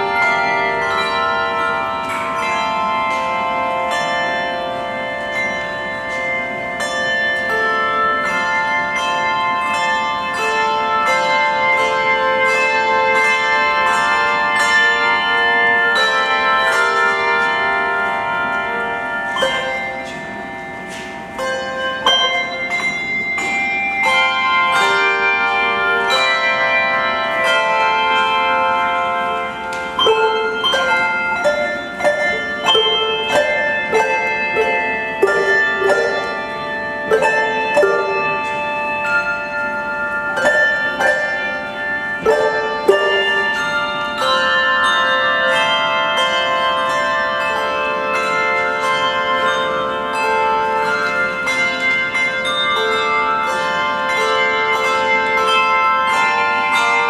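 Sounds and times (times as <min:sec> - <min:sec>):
handbell choir playing: 0:00.0 - 0:57.0.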